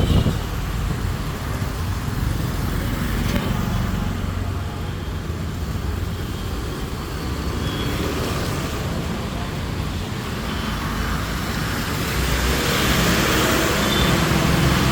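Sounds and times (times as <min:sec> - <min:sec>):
rumble of passing cars: 0:00.0 - 0:14.9.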